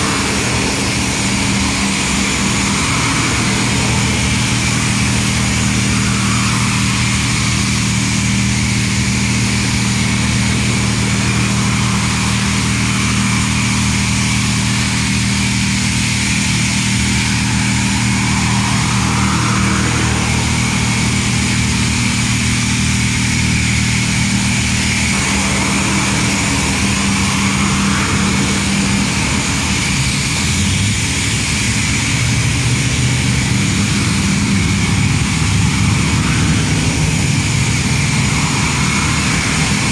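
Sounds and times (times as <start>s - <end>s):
constant hiss: 0.0s - 39.9s
motor hum: 0.0s - 39.9s.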